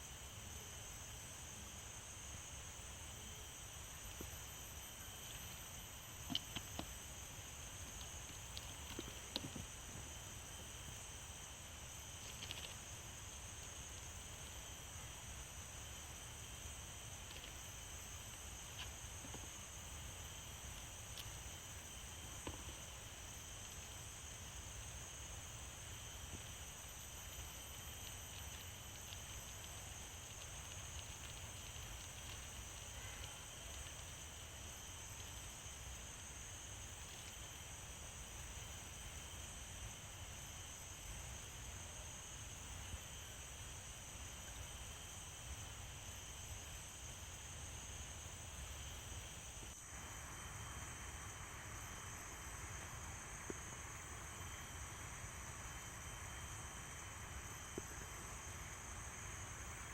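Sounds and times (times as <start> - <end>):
night insects trilling: 0.0 - 59.9.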